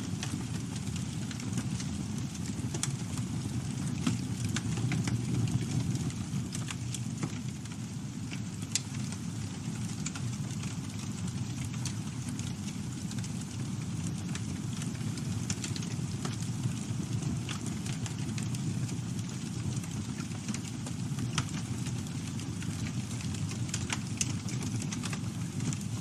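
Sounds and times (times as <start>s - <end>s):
burning wood crackling and popping: 0.0s - 26.0s
campfire flames rumbling: 0.0s - 26.0s.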